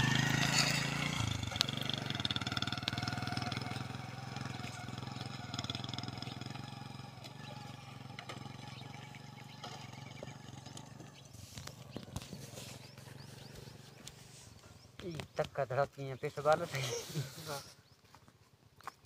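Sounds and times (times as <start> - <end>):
motorcycle engine running: 0.0 - 15.3.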